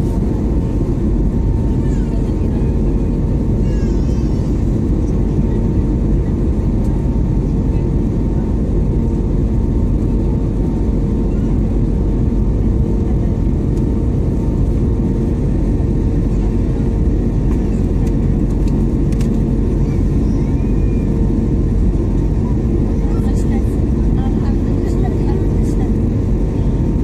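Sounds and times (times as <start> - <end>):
jet engines and airflow roaring: 0.0 - 27.0
steady hum: 0.0 - 27.0.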